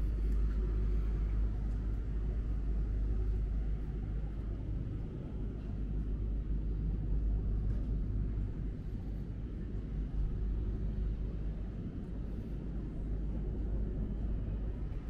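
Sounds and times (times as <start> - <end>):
low rumble of city noise: 0.0 - 15.0.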